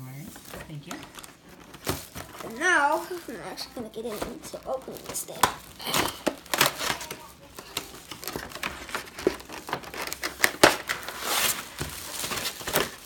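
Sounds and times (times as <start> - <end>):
cardboard and plastic crinkling: 0.2 - 13.0.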